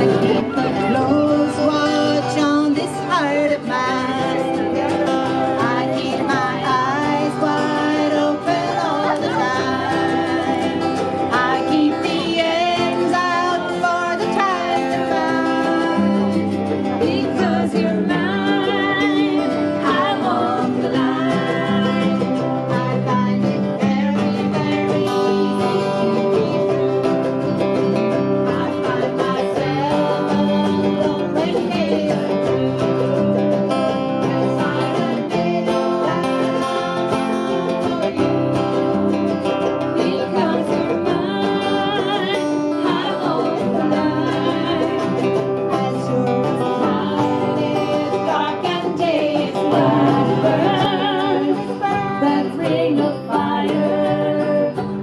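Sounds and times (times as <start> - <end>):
acoustic string band playing: 0.0 - 55.0.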